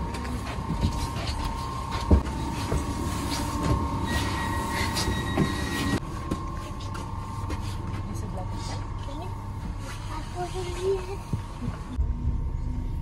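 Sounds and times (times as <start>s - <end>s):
high electrical hum: 0.0s - 13.0s.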